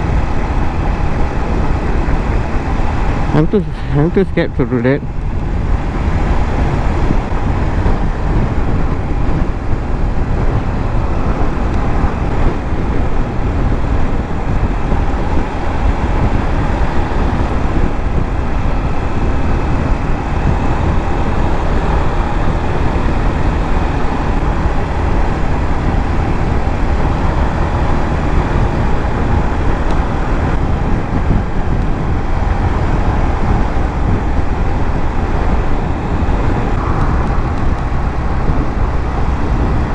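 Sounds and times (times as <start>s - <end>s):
motorcycle road noise: 0.0s - 39.9s
wind rushing: 0.0s - 39.9s.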